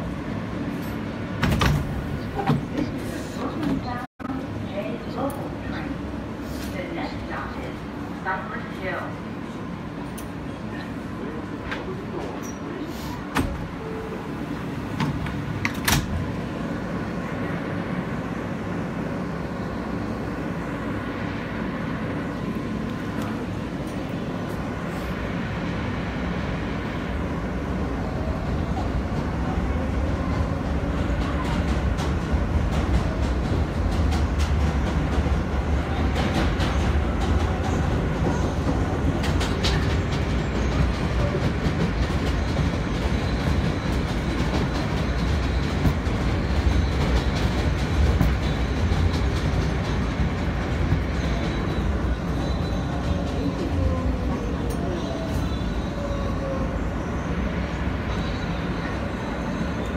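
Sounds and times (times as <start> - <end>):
train running inside car: 0.0 - 59.9.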